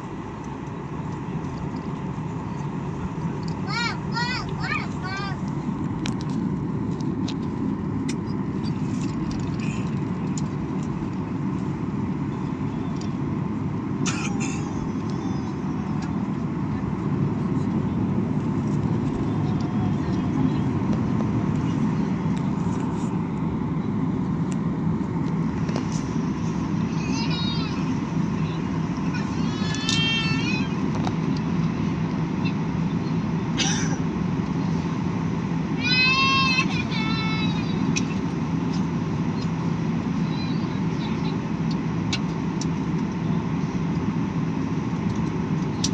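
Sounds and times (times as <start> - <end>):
airliner rumble: 0.0 - 45.9
faint steady whine: 0.0 - 45.9.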